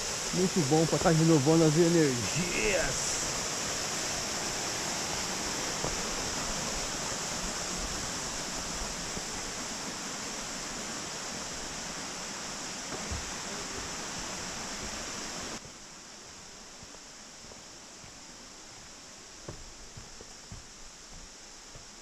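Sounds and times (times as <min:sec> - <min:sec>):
mountain stream and waterfalls: 0:00.0 - 0:22.0.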